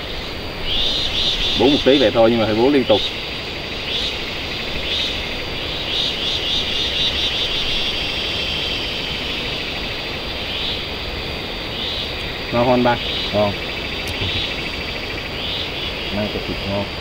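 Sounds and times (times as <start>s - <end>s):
continuous hiss: 0.0s - 17.0s
pulsing high buzzing: 0.0s - 17.0s.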